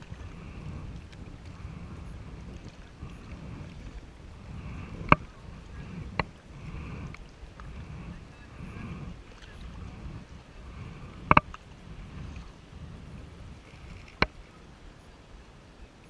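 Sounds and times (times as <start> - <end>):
paddle swishing water: 0.0 - 16.0.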